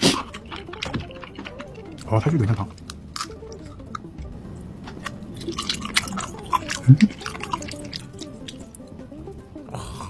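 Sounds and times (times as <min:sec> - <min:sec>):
crab shell cracking: 0:00.0 - 0:04.1, 0:04.8 - 0:08.8
wet chewing: 0:00.0 - 0:04.1, 0:04.9 - 0:08.9.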